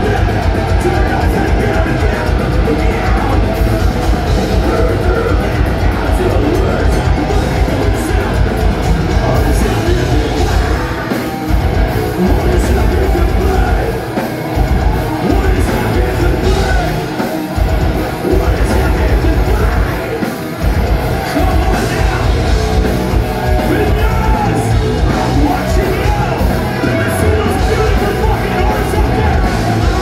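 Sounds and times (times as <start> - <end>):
distorted guitars: 0.0 - 30.0
heavy drums: 0.0 - 30.0
shouted vocals: 0.0 - 30.0.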